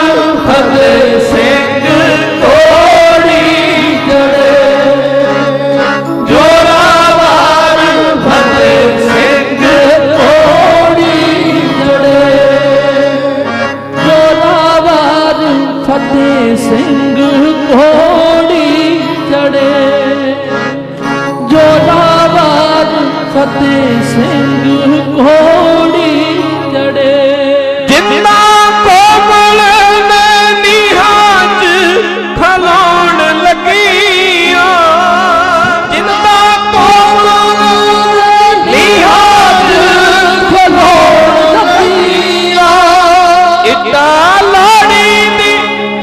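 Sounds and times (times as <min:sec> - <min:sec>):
harmonium drone: 0:00.0 - 0:46.0
men singing devotional melody: 0:00.0 - 0:46.0.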